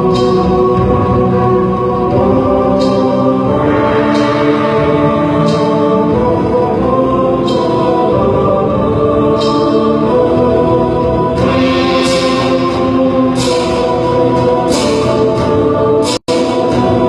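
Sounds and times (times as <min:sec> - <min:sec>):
solemn choral singing: 0:00.0 - 0:17.0.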